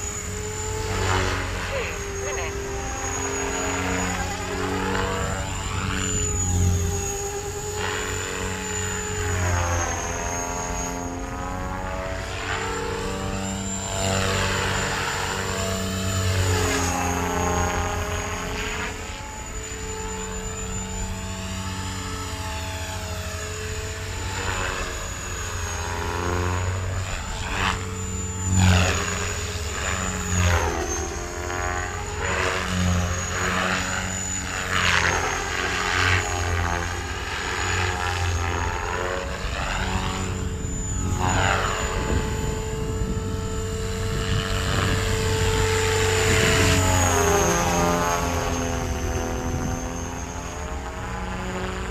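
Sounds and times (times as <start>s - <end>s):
rc helicopter rotor blades slapping: 0.0s - 51.9s
thin high motor whine: 0.0s - 51.9s.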